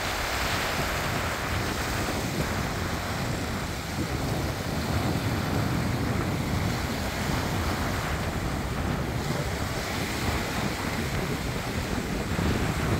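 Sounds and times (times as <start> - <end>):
small waves on sandy beach: 0.0 - 12.9
wind buffeting microphone: 0.0 - 12.9.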